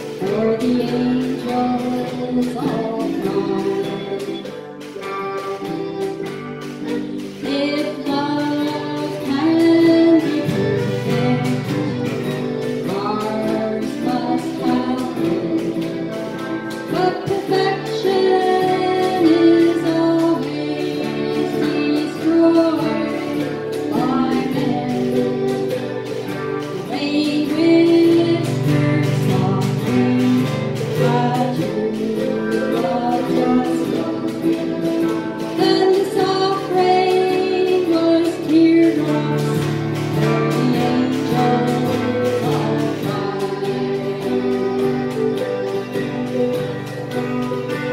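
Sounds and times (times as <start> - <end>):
strummed acoustic guitar: 0.0 - 47.9
woman singing: 0.0 - 47.9.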